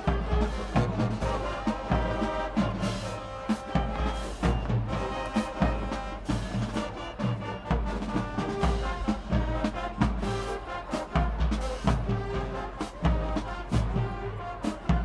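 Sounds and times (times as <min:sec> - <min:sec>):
bass and snare drums: 0:00.0 - 0:15.0
brass section: 0:00.0 - 0:15.0
marching band playing: 0:00.0 - 0:15.0.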